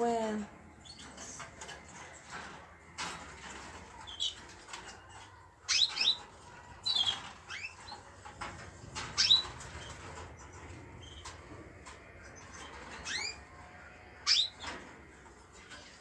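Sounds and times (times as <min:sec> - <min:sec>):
small birds chirping: 0:00.0 - 0:02.3, 0:03.3 - 0:16.0.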